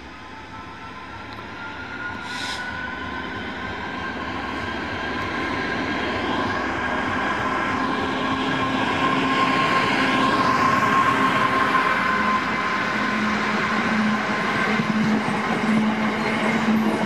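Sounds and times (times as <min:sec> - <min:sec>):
diesel locomotive engine: 0:00.0 - 0:17.0.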